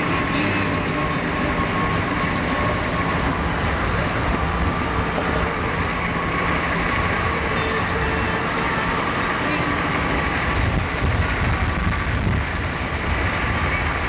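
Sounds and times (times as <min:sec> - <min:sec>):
car road rumble: 0:00.0 - 0:14.0
wind buffeting microphone: 0:00.0 - 0:14.0.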